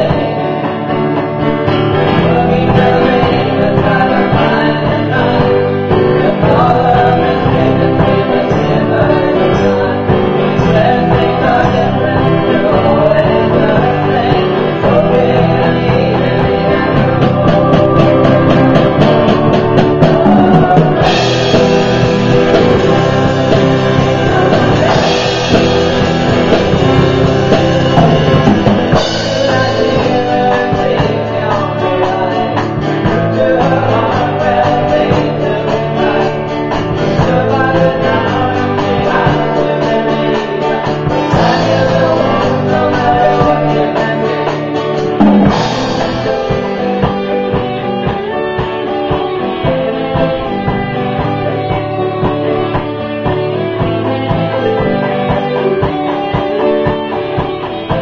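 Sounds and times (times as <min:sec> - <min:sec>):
live rock band playing: 0:00.0 - 0:58.0
person singing: 0:00.0 - 0:58.0.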